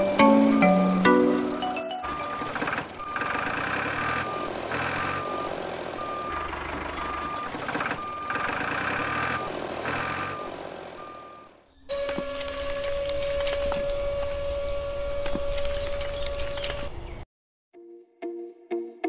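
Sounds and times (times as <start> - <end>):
vehicle engine running: 0.0 - 16.9
reversing alarm beeping: 0.1 - 16.9.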